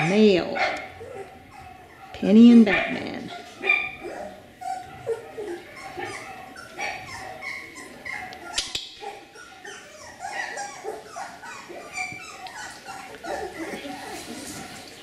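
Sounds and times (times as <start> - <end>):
puppies whimpering and yipping: 0.0 - 15.0.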